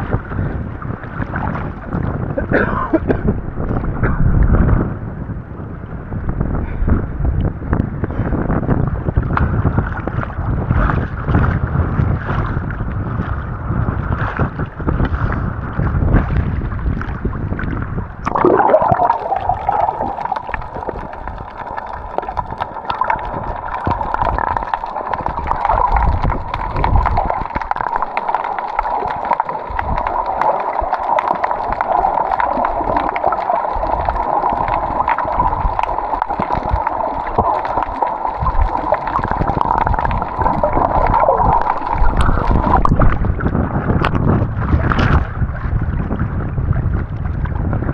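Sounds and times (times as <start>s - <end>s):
wind buffeting microphone: 0.0s - 28.1s, 33.7s - 47.9s
sea water gurgling and sloshing: 0.0s - 47.9s.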